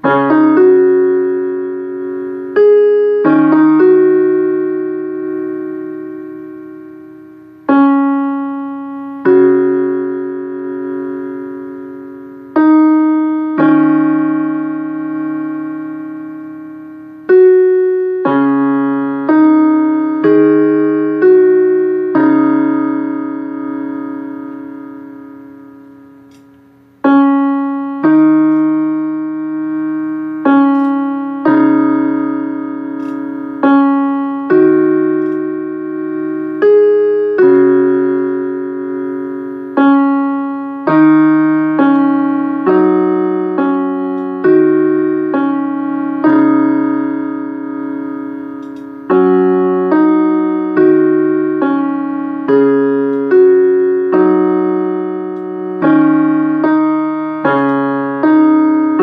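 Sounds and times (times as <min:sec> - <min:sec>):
slow keyboard chords: 0:00.0 - 0:59.0.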